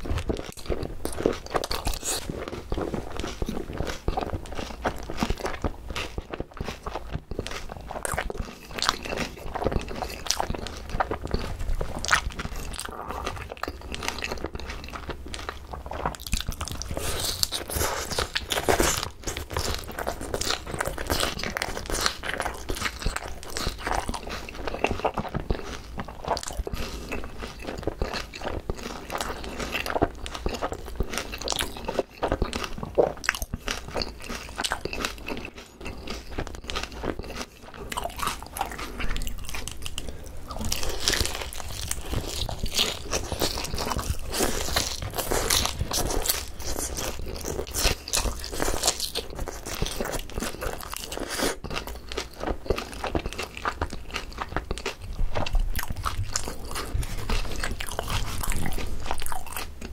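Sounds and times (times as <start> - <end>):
chewing crispy fried chicken: 0.0 - 59.9.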